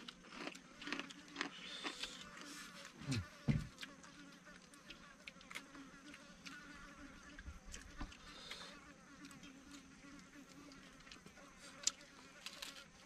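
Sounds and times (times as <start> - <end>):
insect buzzing: 0.0 - 13.0.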